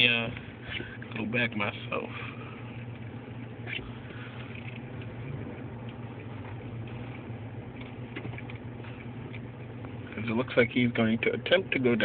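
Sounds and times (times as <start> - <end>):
low engine hum: 0.0 - 12.0
road noise: 0.0 - 12.0.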